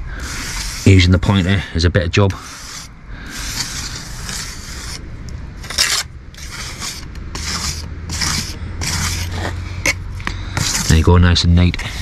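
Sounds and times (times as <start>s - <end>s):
low steady hum: 0.0s - 12.0s
trowel scraping mortar: 0.2s - 1.7s, 2.3s - 5.0s, 5.6s - 11.2s.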